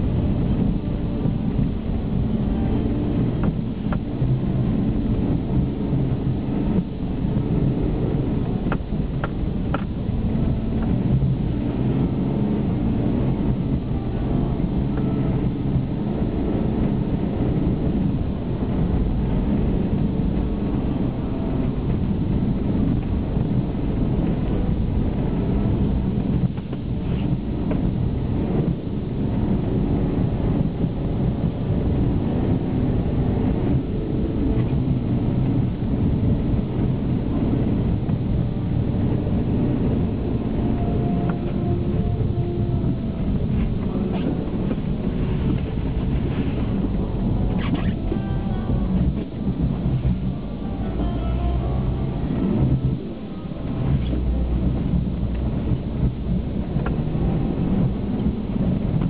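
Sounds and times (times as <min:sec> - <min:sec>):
car engine rumbling from inside: 0:00.0 - 0:59.0
tyres ploughing through snow: 0:00.0 - 0:59.0.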